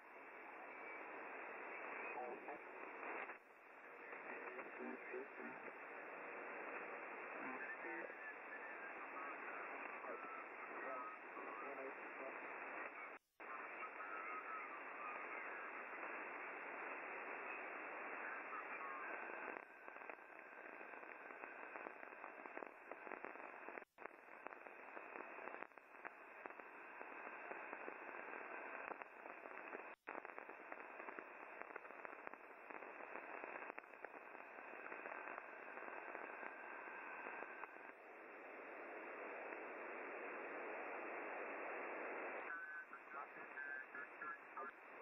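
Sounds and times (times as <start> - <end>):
shortwave radio static and hiss: 0.0 - 45.0.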